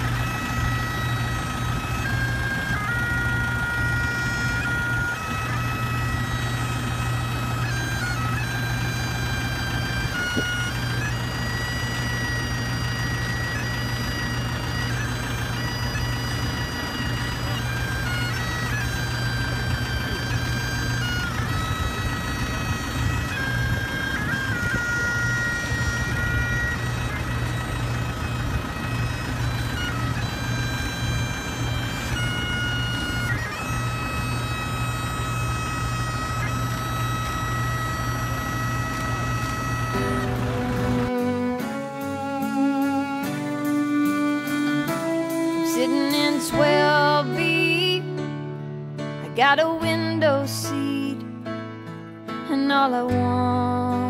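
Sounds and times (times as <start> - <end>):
bagpipes playing slow tune: 0.0 - 49.2
bagpipe drone: 0.0 - 51.3.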